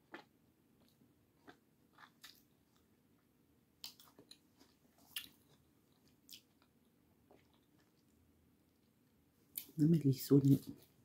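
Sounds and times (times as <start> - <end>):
person chewing food: 0.0 - 9.8.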